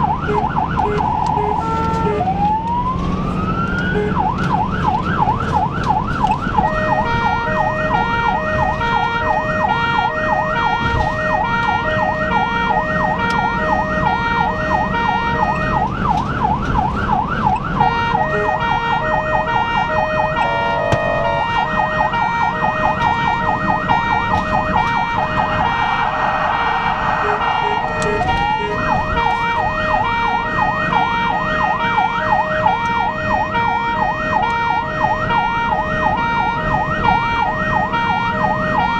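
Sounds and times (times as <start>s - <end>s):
ambulance siren yelping: 0.0s - 38.9s
road noise: 0.0s - 38.9s
vehicle engine: 0.0s - 38.9s.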